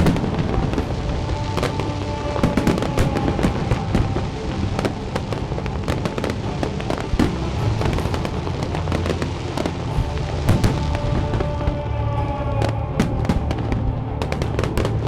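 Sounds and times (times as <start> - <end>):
fireworks bangs and crackles: 0.0 - 11.8, 12.5 - 15.0
music playing: 0.0 - 15.0.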